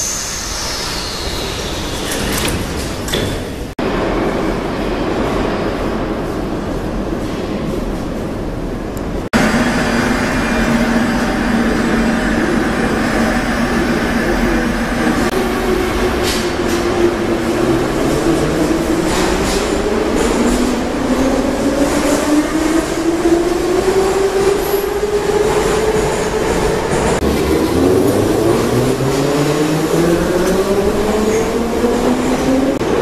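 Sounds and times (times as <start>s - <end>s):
metro train wheels rumbling: 0.0s - 33.0s.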